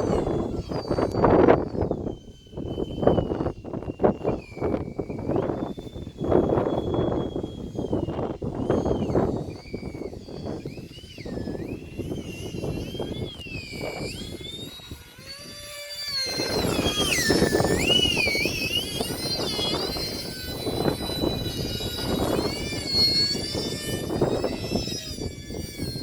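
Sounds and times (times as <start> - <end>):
electric jet fan whining: 0.0 - 26.0
wind buffeting microphone: 0.0 - 26.0.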